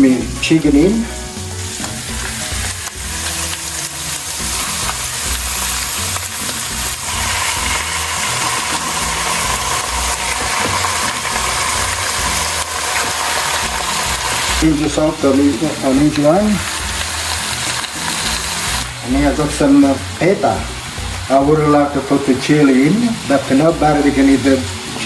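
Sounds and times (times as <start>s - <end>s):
chicken sizzling in frying pan: 0.0s - 25.0s.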